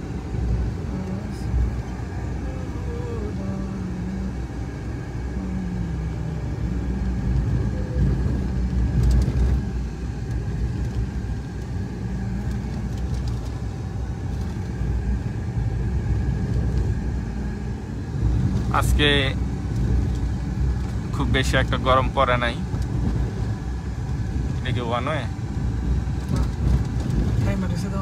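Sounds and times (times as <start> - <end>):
car engine hum: 0.0 - 28.0
road rumble inside moving car: 0.0 - 28.0
tyres on tarmac: 0.0 - 28.0.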